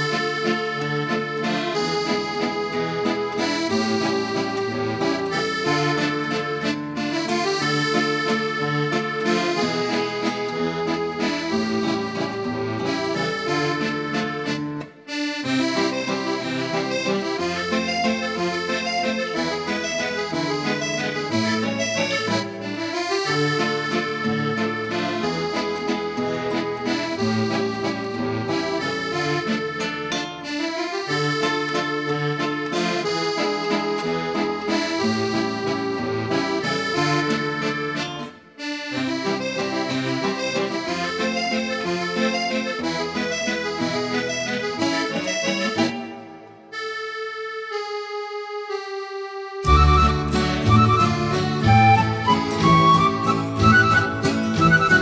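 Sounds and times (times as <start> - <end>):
instrumental background music: 0.0 - 55.0.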